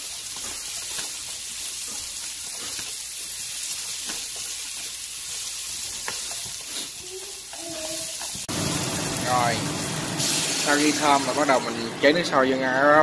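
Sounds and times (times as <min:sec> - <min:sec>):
onion and garlic sizzling in oil: 0:00.0 - 0:13.0.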